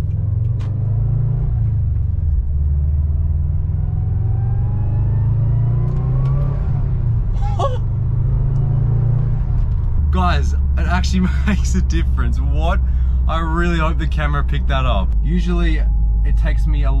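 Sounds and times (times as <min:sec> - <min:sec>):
turbocharged car engine accelerating: 0:00.0 - 0:17.0.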